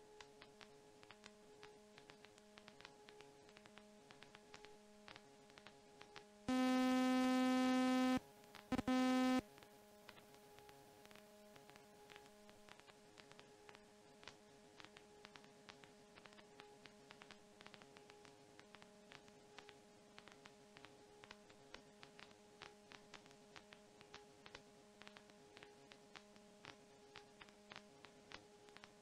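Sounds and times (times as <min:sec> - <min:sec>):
faint clicks and crackles: 0:00.0 - 0:29.0
faint steady hum: 0:00.0 - 0:29.0.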